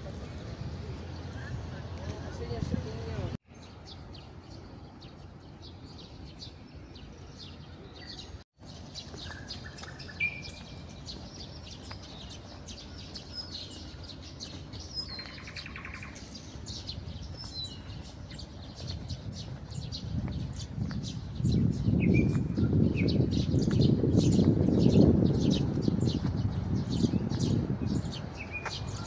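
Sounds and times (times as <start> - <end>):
songbirds chirping and singing: 0.0 - 29.0.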